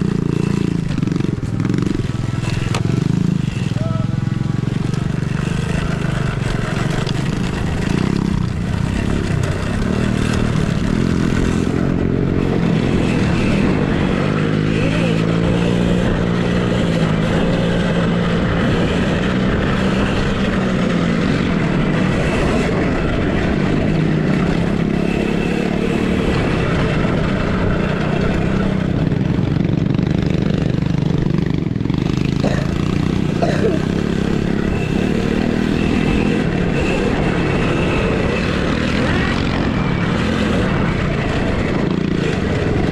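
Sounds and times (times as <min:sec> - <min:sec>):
off-road motorcycles racing: 0:00.0 - 0:42.9.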